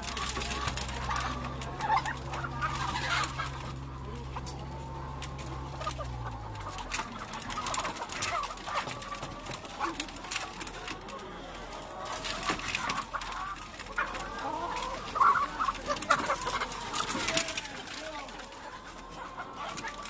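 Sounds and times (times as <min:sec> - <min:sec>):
hens clucking in distress: 0:00.0 - 0:20.0
knocks and clatter of crates: 0:00.0 - 0:20.0.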